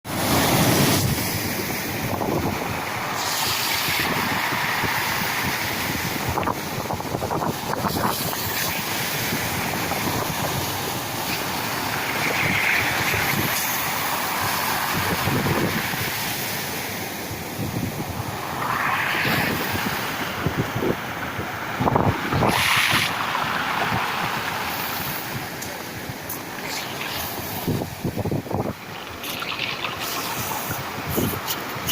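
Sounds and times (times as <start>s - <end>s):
sea waves breaking on shore: 0.1s - 31.9s.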